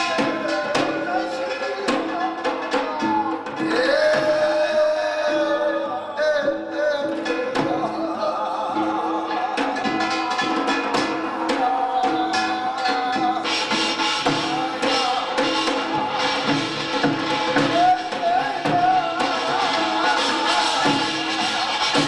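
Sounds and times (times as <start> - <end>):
drums and gongs struck in rhythm: 0.0 - 22.0.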